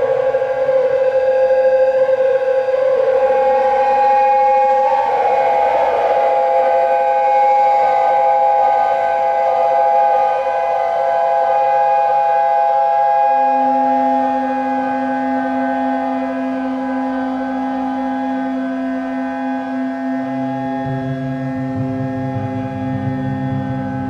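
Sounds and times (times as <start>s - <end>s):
low synth tone: 0.0s - 24.0s
noisy synth wash: 0.0s - 24.0s
synthesizer drone chord: 0.0s - 24.0s.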